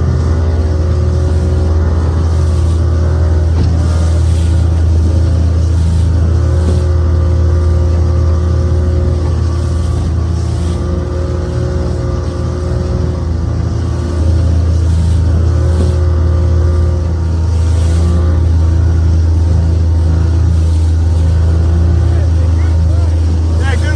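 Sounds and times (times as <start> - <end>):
motorboat engine droning: 0.0 - 23.9.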